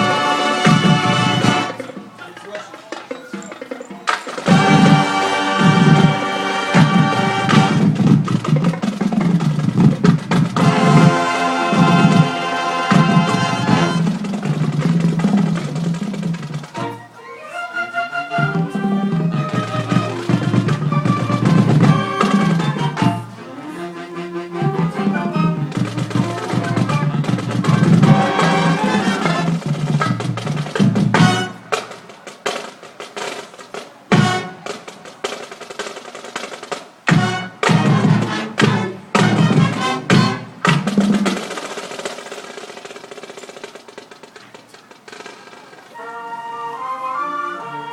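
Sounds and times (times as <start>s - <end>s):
drum hits: 0.0s - 17.0s, 18.5s - 23.3s, 25.6s - 45.8s
marching band playing: 0.0s - 47.9s.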